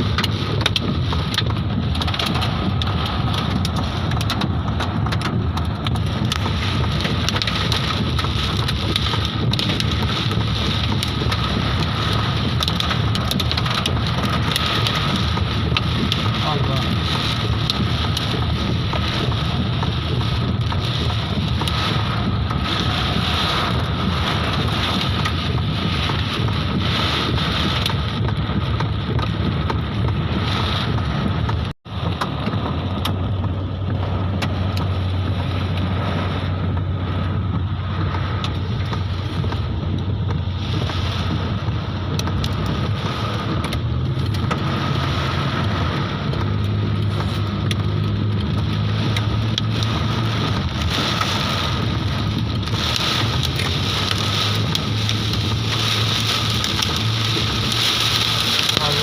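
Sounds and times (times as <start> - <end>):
heavy rain and hail pelting: 0.0 - 59.0
wind buffeting microphone: 0.0 - 59.0.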